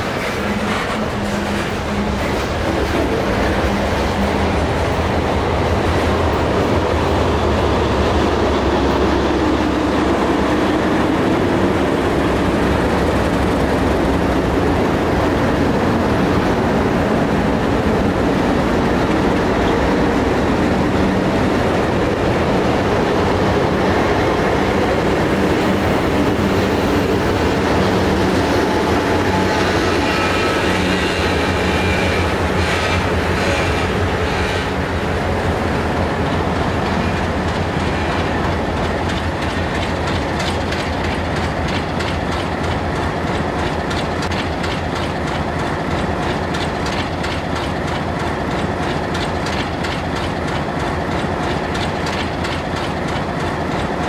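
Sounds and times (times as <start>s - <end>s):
diesel locomotive engines droning: 0.0s - 54.0s
train wheels clicking over rail joints: 0.0s - 54.0s.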